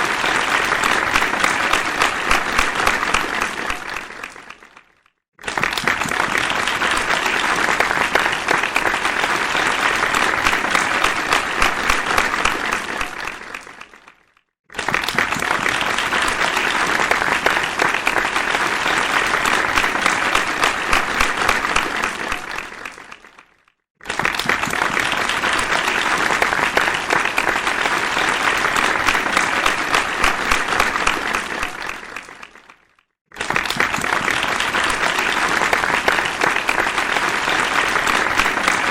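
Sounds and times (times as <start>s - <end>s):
crowd applause: 0.0s - 38.9s.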